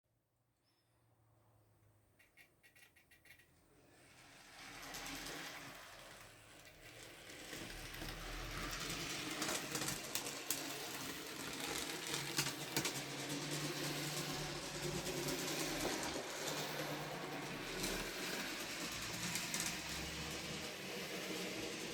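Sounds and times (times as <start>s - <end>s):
wheels ticking on rails: 2.2s - 21.9s.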